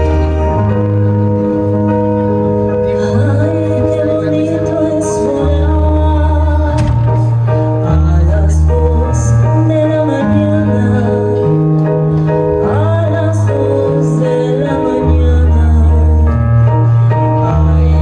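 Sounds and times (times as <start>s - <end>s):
slow music with held chords: 0.0s - 18.0s.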